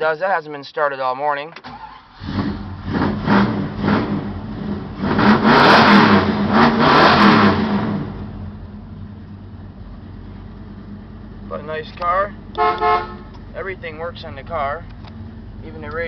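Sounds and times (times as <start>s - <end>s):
car engine starting and revving: 1.6s - 16.0s.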